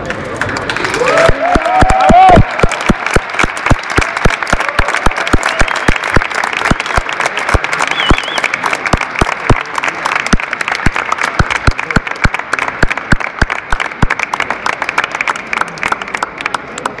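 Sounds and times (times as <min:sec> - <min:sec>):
audience applauding: 0:00.0 - 0:17.0
sharp claps close by: 0:00.0 - 0:17.0.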